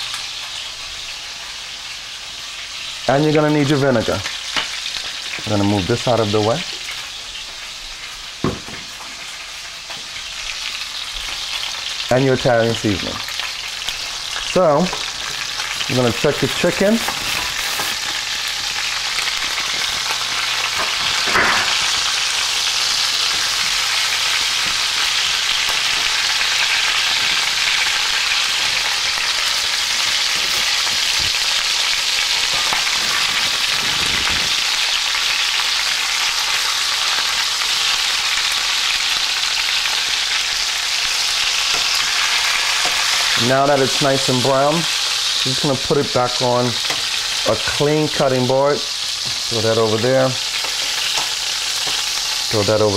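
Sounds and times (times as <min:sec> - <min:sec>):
chicken frying in oil: 0:00.0 - 0:52.9.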